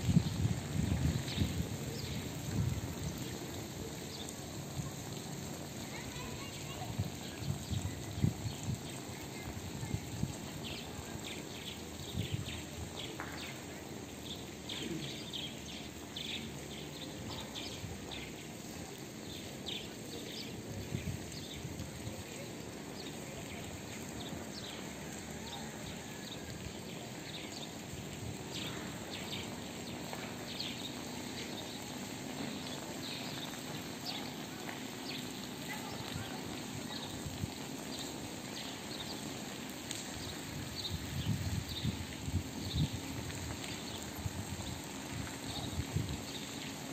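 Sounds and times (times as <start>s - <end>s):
steady outdoor hiss: 0.0s - 46.9s
small birds chirping: 1.2s - 26.0s, 26.6s - 46.9s.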